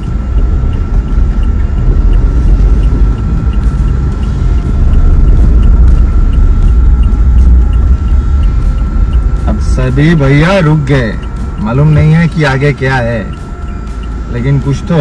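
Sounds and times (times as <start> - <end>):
engine and tyres rumbling: 0.0 - 15.0
light regular ticking: 0.0 - 15.0.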